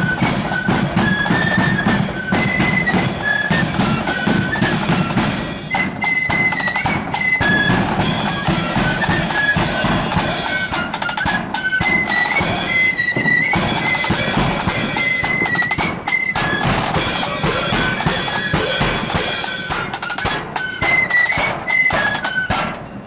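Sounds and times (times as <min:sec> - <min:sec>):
flutes playing shrill melody: 0:00.0 - 0:23.0
snare drum rolls: 0:00.0 - 0:23.0.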